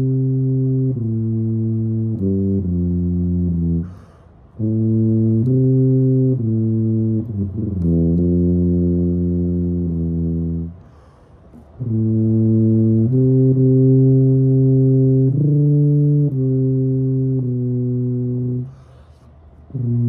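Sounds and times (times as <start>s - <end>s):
low brass held notes: 0.0s - 20.0s.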